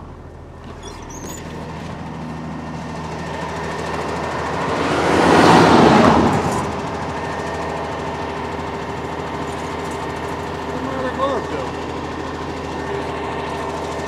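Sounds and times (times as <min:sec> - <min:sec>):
truck engine idling: 0:00.0 - 0:05.2, 0:05.8 - 0:14.0.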